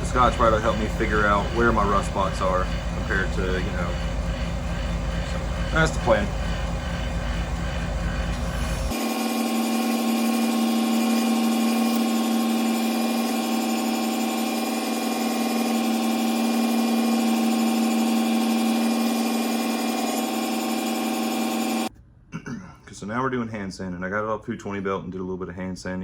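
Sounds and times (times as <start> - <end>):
belt grinder humming and hissing: 0.0 - 21.9.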